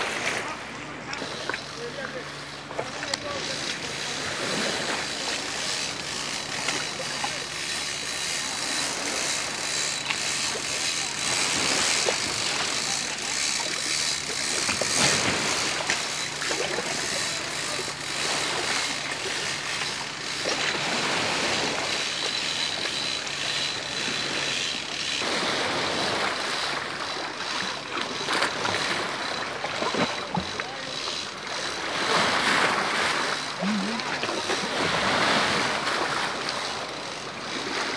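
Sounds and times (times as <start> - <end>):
seawater lapping and sloshing: 0.0 - 37.9.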